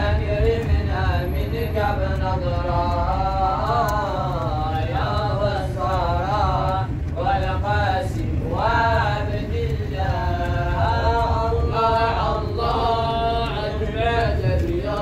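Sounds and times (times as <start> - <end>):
steady low rumble: 0.0 - 15.0
voices chanting a devotional song: 0.0 - 15.0.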